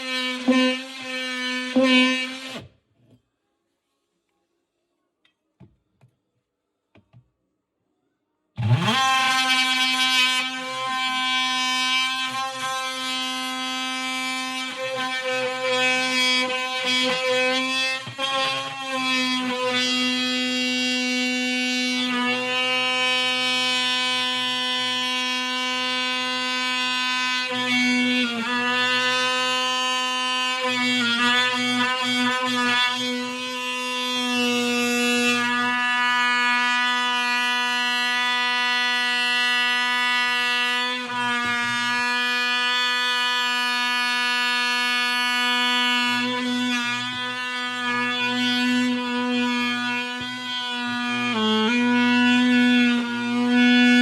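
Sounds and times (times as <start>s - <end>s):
oscillating multi-tool cutting wood: 0.0s - 2.7s, 8.6s - 54.0s.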